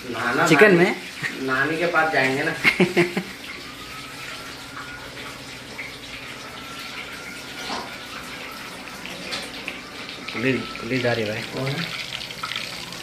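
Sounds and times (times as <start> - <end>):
tap water running into a sink: 0.0 - 13.0.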